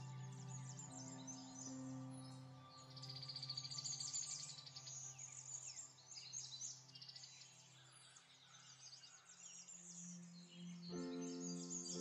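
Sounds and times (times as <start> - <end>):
birds chirping and trilling: 0.0 - 12.0
quiet background music: 0.0 - 12.0.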